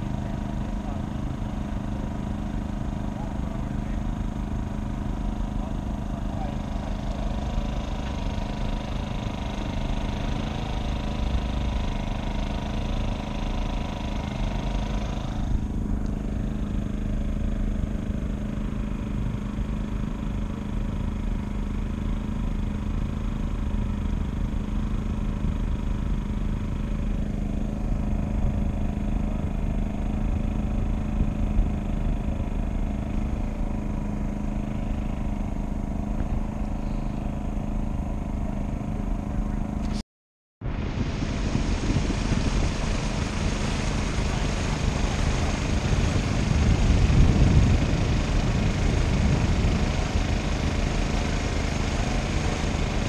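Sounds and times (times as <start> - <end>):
boat engine droning: 0.0 - 40.0, 40.6 - 53.0.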